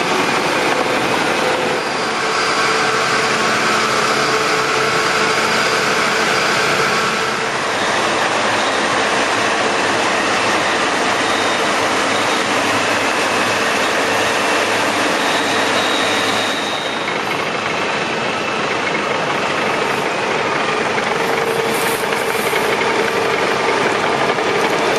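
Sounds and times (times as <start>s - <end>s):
combine harvester roaring: 0.0s - 24.9s.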